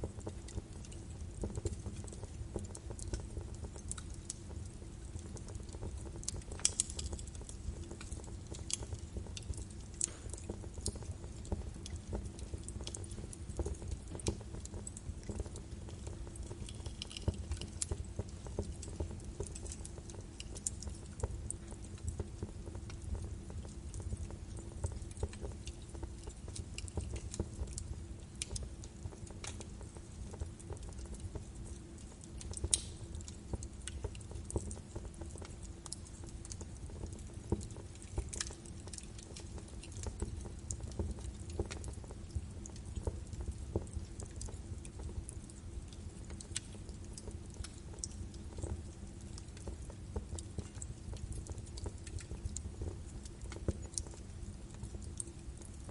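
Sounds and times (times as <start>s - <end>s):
logs crackling in a fireplace: 0.0s - 55.9s
low rumble of flames: 0.0s - 55.9s.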